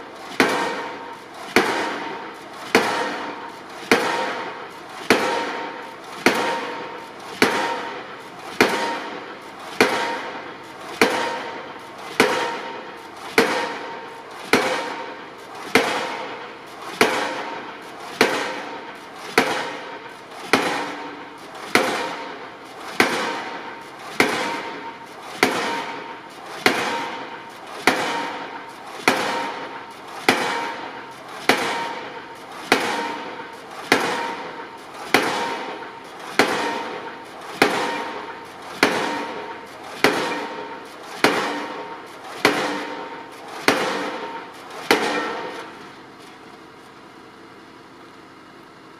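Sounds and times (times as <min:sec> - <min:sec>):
impact hammer pounding steel beam: 0:00.0 - 0:46.9.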